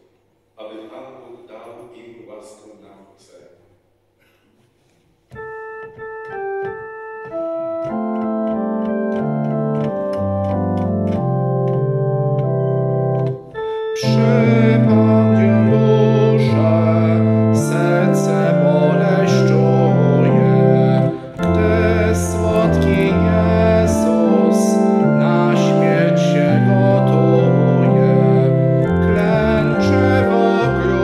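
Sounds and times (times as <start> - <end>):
church organ playing a hymn: 5.3 - 31.0.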